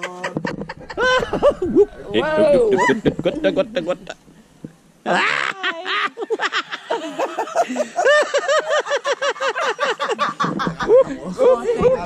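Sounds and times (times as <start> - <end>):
person laughing: 0.0 - 2.0, 2.6 - 4.2, 5.1 - 11.3.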